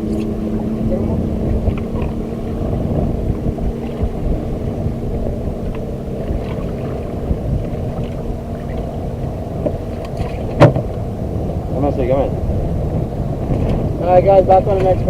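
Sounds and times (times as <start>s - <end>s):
low rumbling wind noise: 0.0s - 15.0s.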